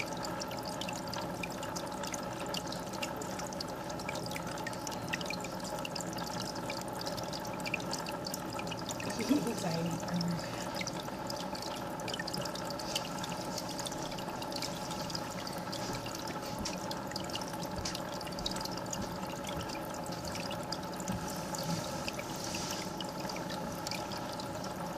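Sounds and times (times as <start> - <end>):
filter hum: 0.0 - 24.9
small water drips: 0.0 - 24.9
water trickling and splashing: 0.0 - 24.9.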